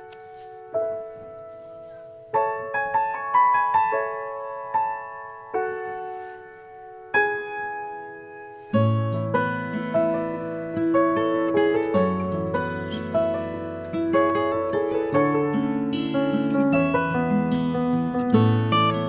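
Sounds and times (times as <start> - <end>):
slow solo piano: 0.0 - 19.0.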